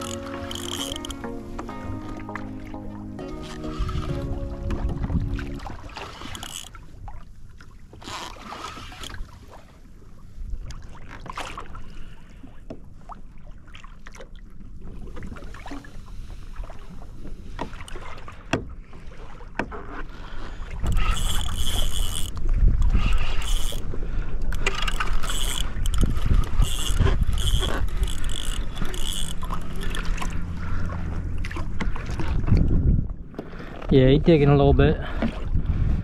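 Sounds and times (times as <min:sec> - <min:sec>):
water noise around kayak: 0:00.0 - 0:36.0
wind: 0:00.0 - 0:36.0.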